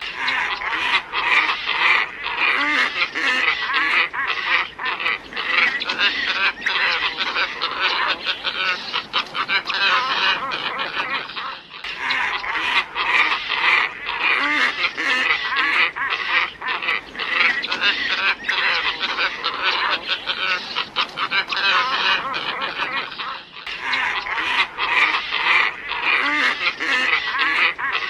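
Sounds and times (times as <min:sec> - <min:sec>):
flock of ibises calling: 0:00.0 - 0:28.0.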